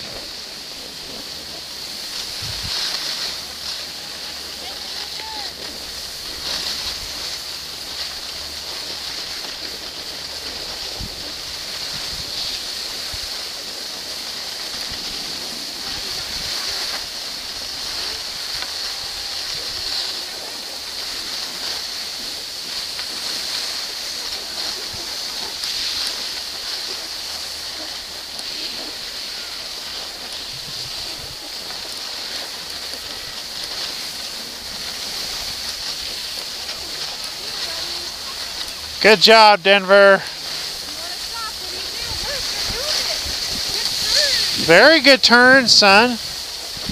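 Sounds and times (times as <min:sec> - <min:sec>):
skis sliding over snow: 0:00.0 - 0:46.9.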